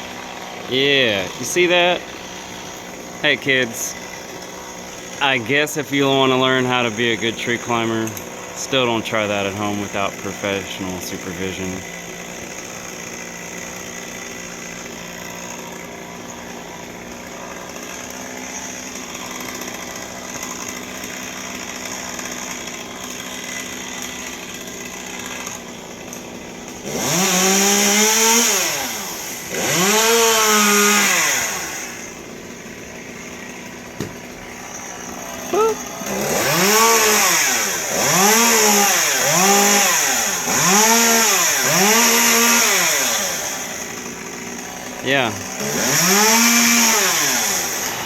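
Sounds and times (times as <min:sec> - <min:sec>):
chainsaw idling and revving: 0:00.0 - 0:48.0.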